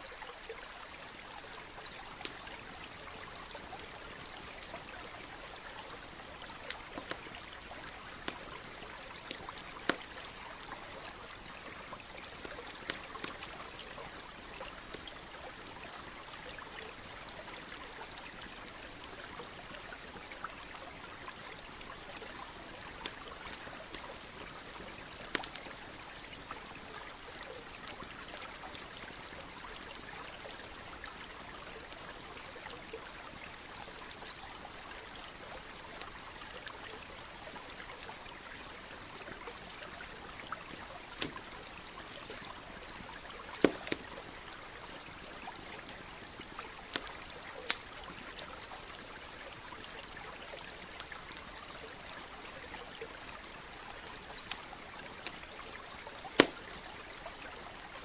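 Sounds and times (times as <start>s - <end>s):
stream flowing: 0.0s - 58.0s
campfire crackling: 0.1s - 58.0s.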